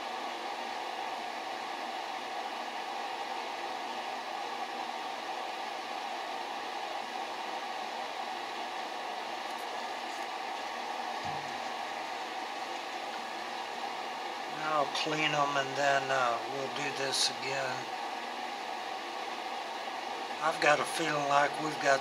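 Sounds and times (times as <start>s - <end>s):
faint mid-pitched hum: 0.0s - 22.0s.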